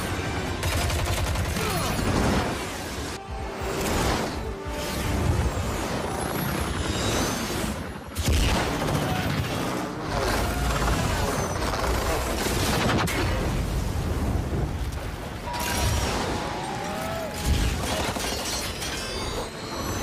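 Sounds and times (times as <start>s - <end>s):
film music: 0.0s - 20.0s.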